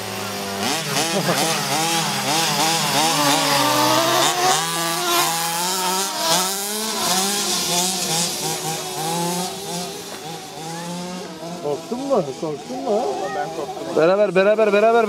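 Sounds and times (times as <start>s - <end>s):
small two-stroke engines revving: 0.0s - 15.0s.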